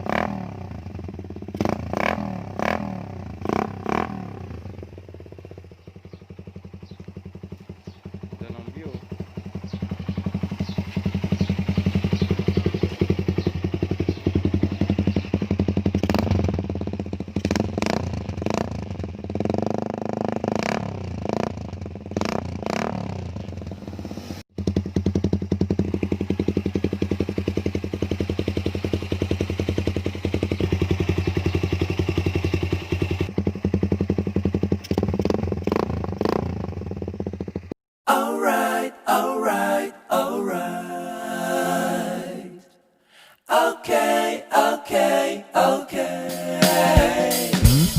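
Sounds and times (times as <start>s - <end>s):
loud motorcycle exhaust revving: 0.0s - 37.8s, 46.6s - 47.9s.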